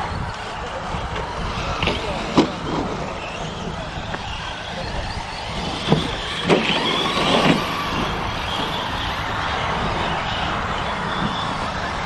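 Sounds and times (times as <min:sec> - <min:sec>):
electric motor whine: 0:00.0 - 0:12.0
steady noisy background: 0:00.0 - 0:12.0.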